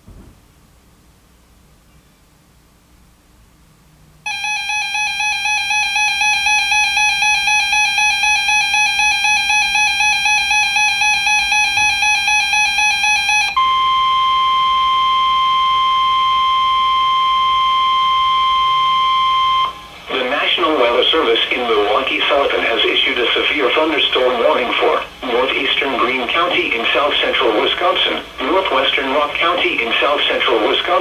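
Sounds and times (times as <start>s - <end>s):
pulsing warbling alarm: 4.3s - 31.0s
steady warning alarm tone: 4.3s - 31.0s.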